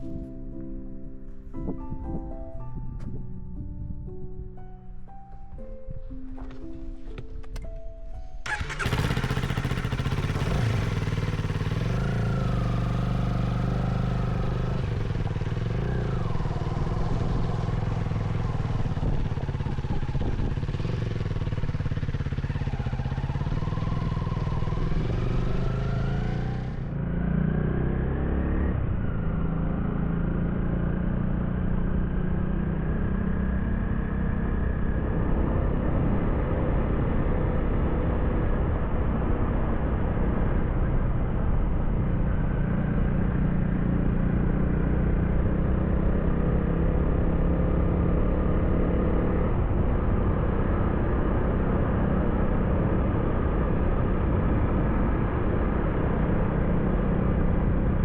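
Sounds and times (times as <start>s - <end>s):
wind and road noise: 0.0s - 58.0s
motorcycle engine running: 8.4s - 58.0s.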